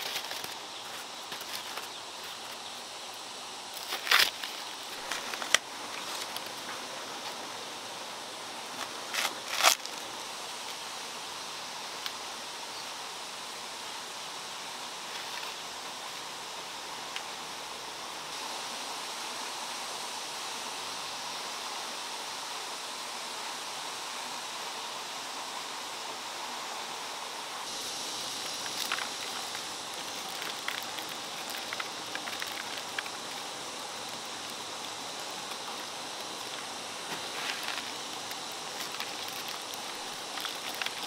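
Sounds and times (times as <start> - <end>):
outdoor hiss: 0.0 - 41.0.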